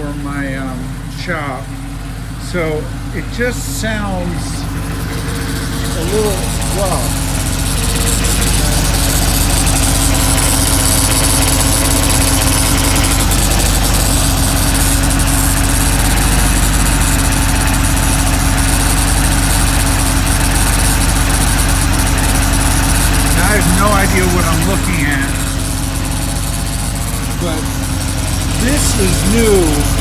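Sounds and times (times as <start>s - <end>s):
car engine idling roughly: 0.0s - 30.0s.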